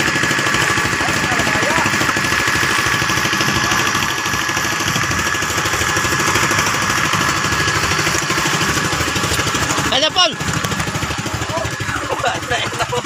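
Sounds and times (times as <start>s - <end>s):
small boat engine running: 0.0s - 13.0s.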